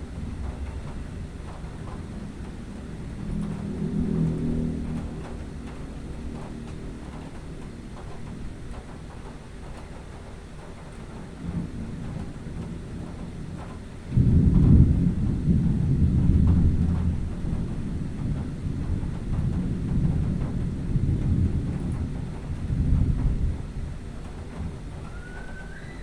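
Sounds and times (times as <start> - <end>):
thunder rumbling: 0.0 - 26.0.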